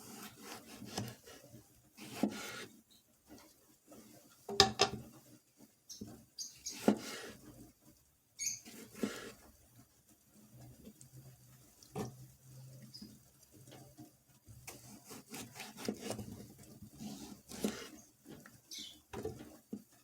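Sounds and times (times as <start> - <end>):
scraping and rubbing food prep: 0.0 - 20.0.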